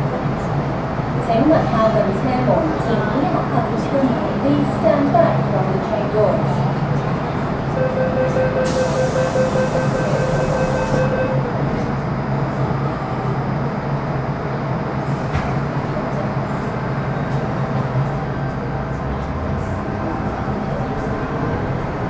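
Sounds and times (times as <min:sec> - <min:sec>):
train wheels and motors rumbling: 0:00.0 - 0:22.0.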